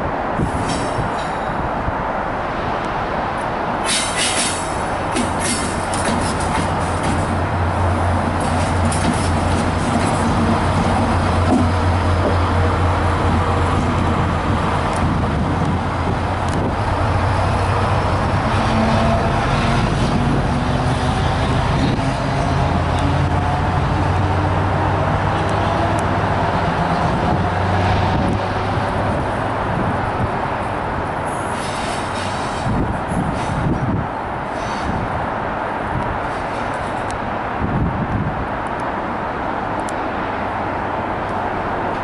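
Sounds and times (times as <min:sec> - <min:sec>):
diesel locomotive engine drone: 0:00.0 - 0:42.0.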